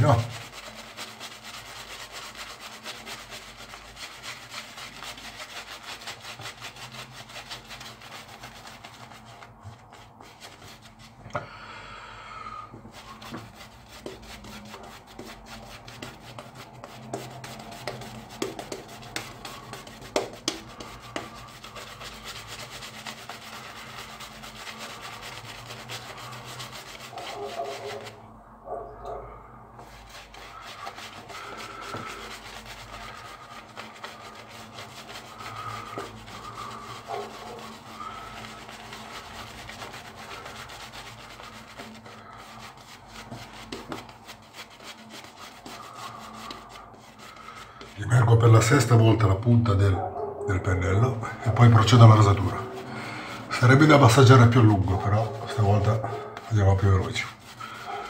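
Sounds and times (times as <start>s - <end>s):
shaving brush scrubbing stubble: 0.0s - 11.2s, 12.8s - 28.3s, 29.8s - 49.4s, 51.0s - 58.0s.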